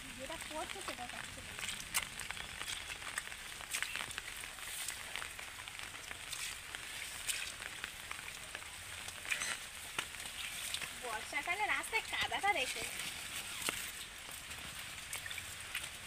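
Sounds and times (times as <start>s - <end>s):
light rain on foliage: 0.0s - 16.0s
drip-like ticks: 0.2s - 12.4s, 13.6s - 16.0s.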